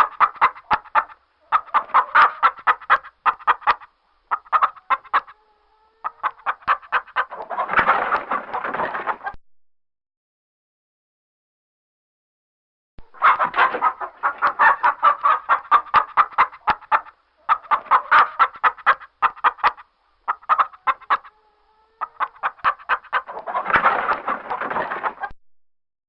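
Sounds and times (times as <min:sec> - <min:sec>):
hens clucking: 0:00.0 - 0:09.4, 0:13.0 - 0:25.3.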